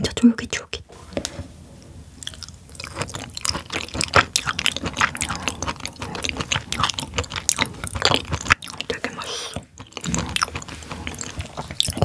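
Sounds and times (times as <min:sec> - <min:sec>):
chewing with mouth clicks: 0:02.2 - 0:12.0.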